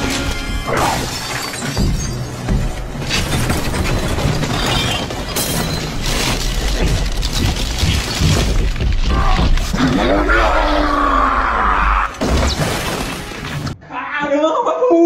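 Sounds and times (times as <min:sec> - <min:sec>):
cracking and crashing: 0:00.0 - 0:10.4, 0:12.0 - 0:13.8.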